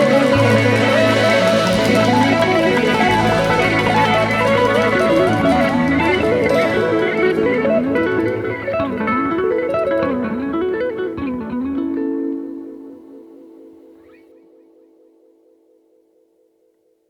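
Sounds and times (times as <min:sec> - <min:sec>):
guitar picking fast melody: 0:00.0 - 0:14.8.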